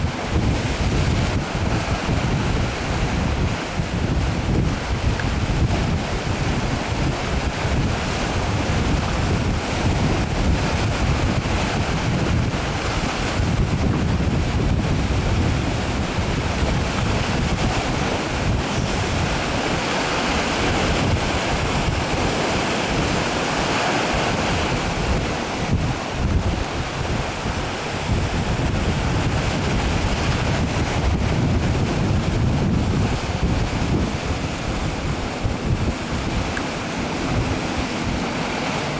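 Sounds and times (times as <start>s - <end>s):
rush of sea water: 0.0s - 38.9s
wind buffeting microphone: 0.0s - 38.9s.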